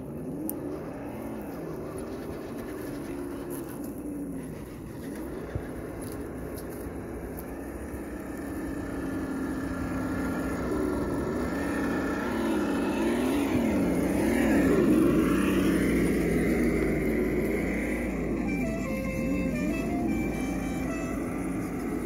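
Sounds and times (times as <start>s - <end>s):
electric motor and gears whining: 0.0s - 22.0s.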